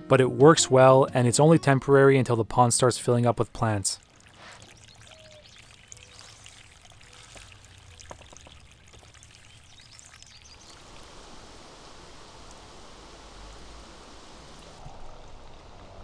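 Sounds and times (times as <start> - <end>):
trickling pouring water: 3.1 - 16.0.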